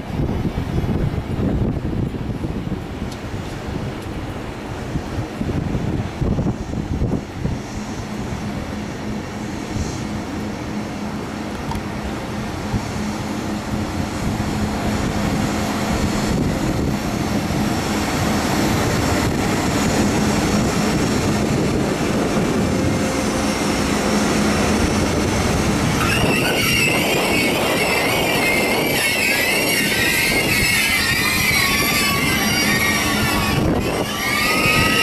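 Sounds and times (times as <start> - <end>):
train rolling with low hum: 0.0 - 35.0
squealing train brakes and wheels: 6.2 - 35.0.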